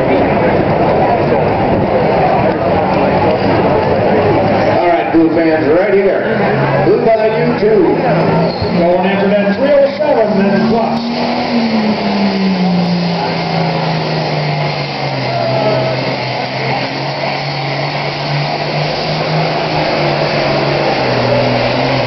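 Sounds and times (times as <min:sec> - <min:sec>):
diesel engine straining: 0:00.0 - 0:22.0.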